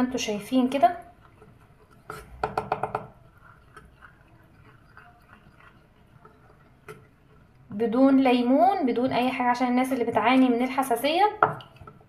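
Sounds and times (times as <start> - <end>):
spoon scraping bowl: 0.2 - 12.0.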